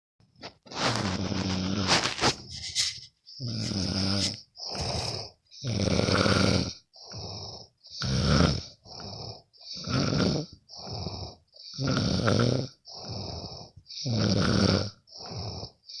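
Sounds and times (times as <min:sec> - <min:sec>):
person snoring: 0:00.7 - 0:02.3, 0:03.4 - 0:16.0.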